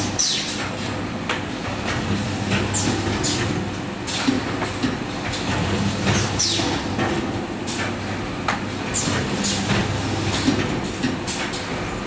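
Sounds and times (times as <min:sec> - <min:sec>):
machine hum and clatter: 0:00.0 - 0:12.0.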